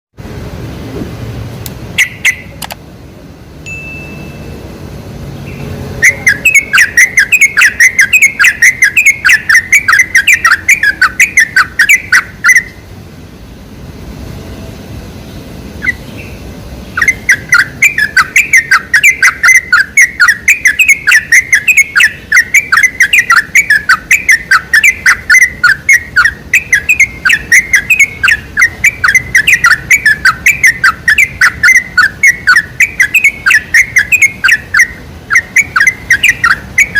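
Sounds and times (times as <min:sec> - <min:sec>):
bulbul singing: 0:01.8 - 0:02.6, 0:03.6 - 0:13.0, 0:15.2 - 0:36.9.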